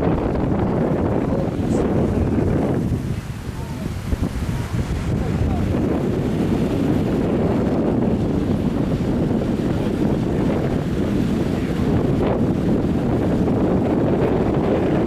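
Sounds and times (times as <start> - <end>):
boat engine: 0.0 - 15.0
water noise: 0.0 - 15.0
wind rush on microphone: 0.0 - 15.0.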